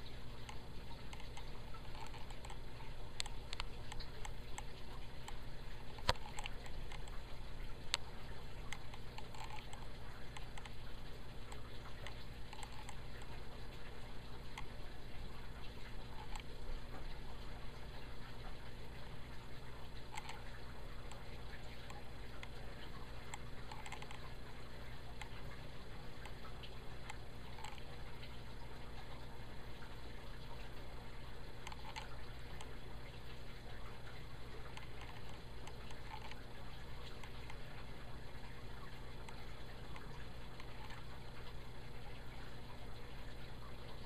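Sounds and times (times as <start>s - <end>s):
light clicks and ticks: 0.0s - 44.0s
steady low hum: 0.0s - 44.0s.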